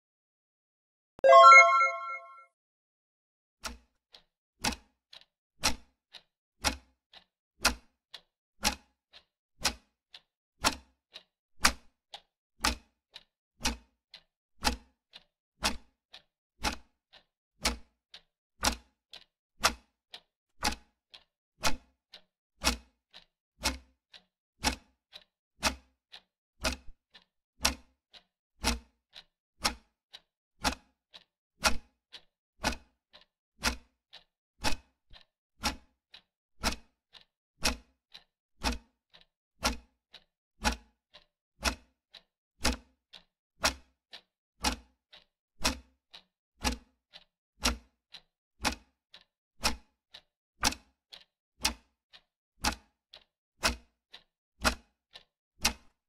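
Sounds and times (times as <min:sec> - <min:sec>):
clock ticking: 0:01.3 - 0:02.3, 0:04.6 - 0:08.9, 0:13.6 - 0:20.0, 0:20.6 - 0:21.8, 0:22.6 - 0:55.9.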